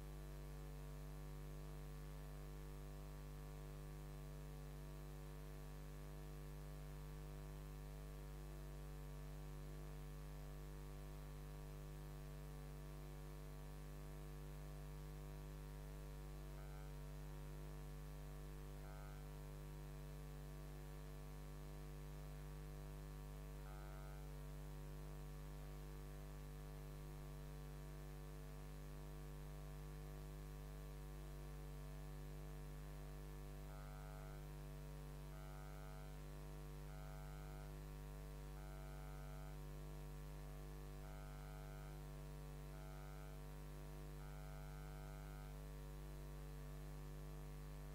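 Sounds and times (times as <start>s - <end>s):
electrical mains hum: 8.6s - 47.9s.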